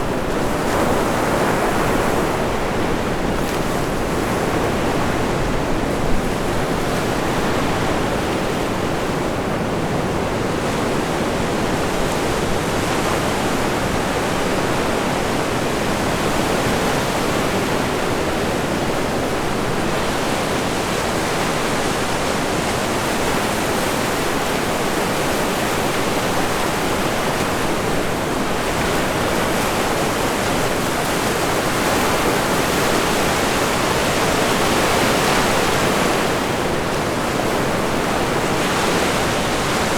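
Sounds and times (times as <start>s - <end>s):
surf washing on beach: 0.0s - 39.9s.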